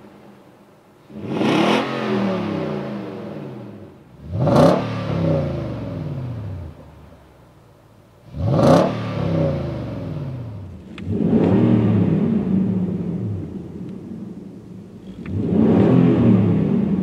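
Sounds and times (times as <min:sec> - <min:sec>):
car engine revving: 0:01.0 - 0:06.9, 0:08.2 - 0:17.0.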